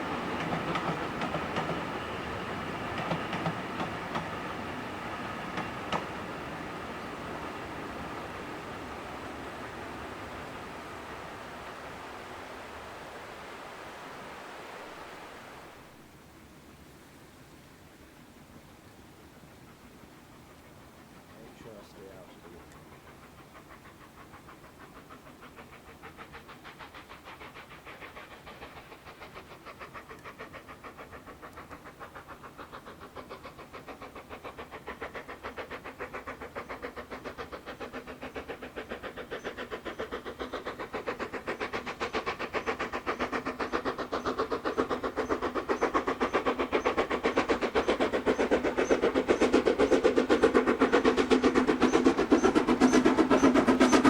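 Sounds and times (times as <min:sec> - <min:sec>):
steam locomotive exhaust beats: 0:00.0 - 0:16.6, 0:18.0 - 0:54.0.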